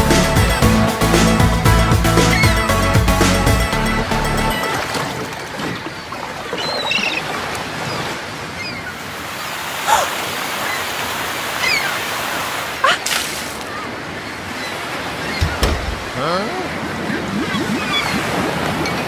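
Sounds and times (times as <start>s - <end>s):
ocean waves washing: 0.0s - 19.0s.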